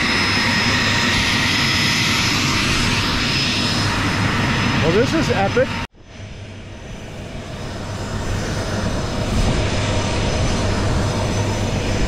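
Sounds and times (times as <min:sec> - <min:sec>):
aircraft engine rumbling: 0:00.0 - 0:12.0.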